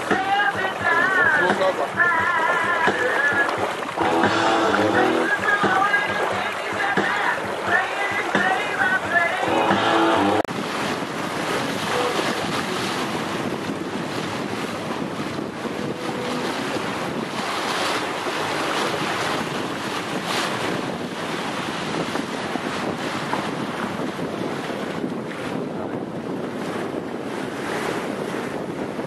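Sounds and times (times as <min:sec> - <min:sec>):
water rushing along hull: 0:00.0 - 0:29.0
wind buffeting microphone: 0:00.0 - 0:29.0.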